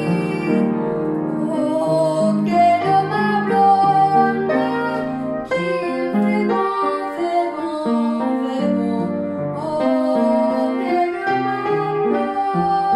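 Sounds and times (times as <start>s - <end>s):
upright piano playing: 0.0s - 12.9s
woman singing with vibrato: 0.0s - 12.9s.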